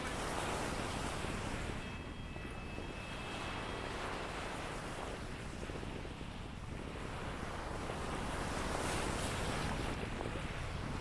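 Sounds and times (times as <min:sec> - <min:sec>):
faint high whine: 0:00.0 - 0:10.9
wind buffeting microphone: 0:00.0 - 0:11.0.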